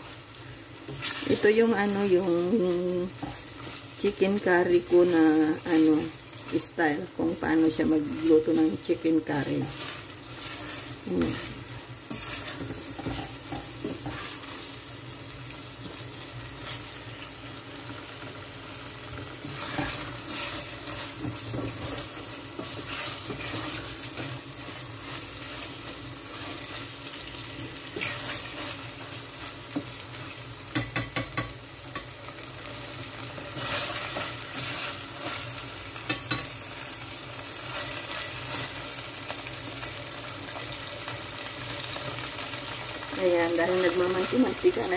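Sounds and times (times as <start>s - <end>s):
chicken sizzling in a pot: 0.0s - 44.9s.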